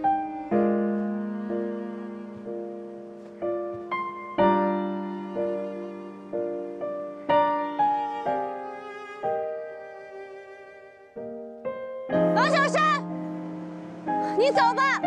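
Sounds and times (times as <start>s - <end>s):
slow solo piano: 0.0s - 10.1s, 11.1s - 15.0s.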